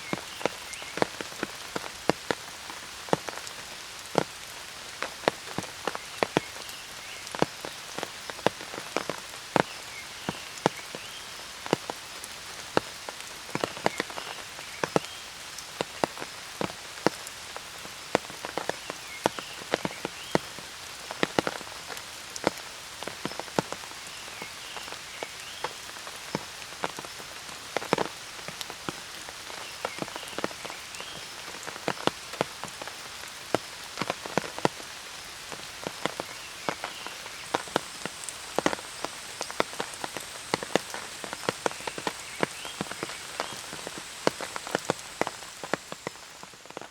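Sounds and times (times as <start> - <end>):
large raindrops tapping: 0.0 - 46.9
steady rain: 0.0 - 46.9.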